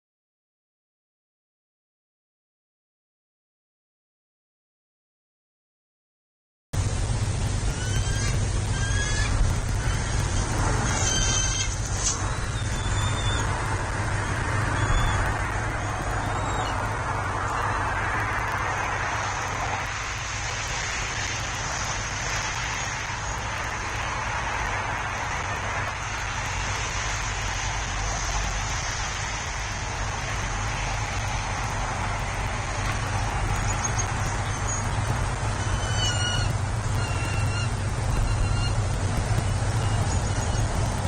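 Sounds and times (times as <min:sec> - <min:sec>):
even hiss: 0:06.8 - 0:41.0
low hum: 0:06.8 - 0:41.0.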